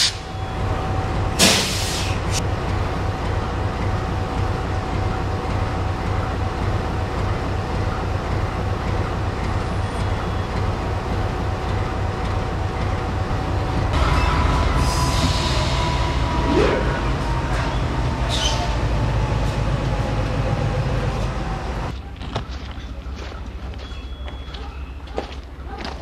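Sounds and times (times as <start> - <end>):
locomotive engine rumble: 0.0 - 25.7.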